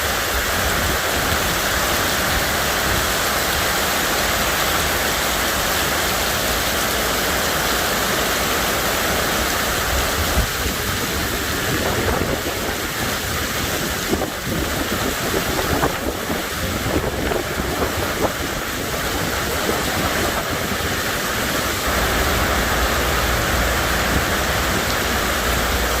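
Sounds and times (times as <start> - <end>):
heavy rain pouring: 0.0 - 26.0
raindrops pattering and splashing: 0.0 - 26.0.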